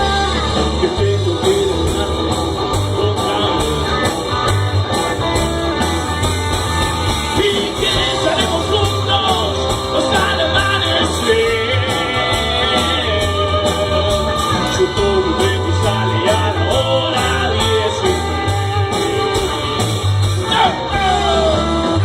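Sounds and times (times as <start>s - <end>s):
person singing: 0.0s - 4.1s, 7.3s - 22.0s
live rock band playing: 0.0s - 22.0s.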